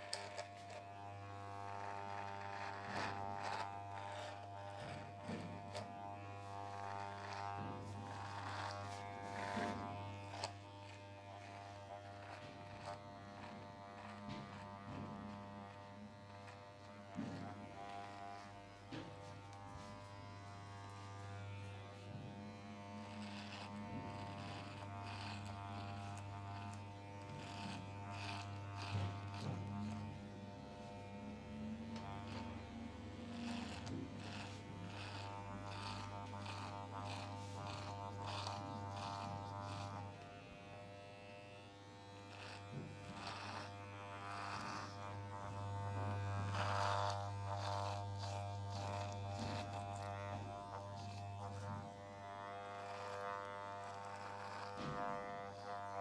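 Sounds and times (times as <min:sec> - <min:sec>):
electric hair trimmer buzzing: 0:00.0 - 0:56.0.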